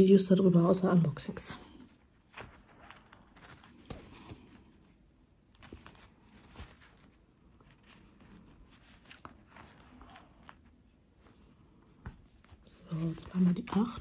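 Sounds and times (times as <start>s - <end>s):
faint rustling: 1.5s - 14.0s.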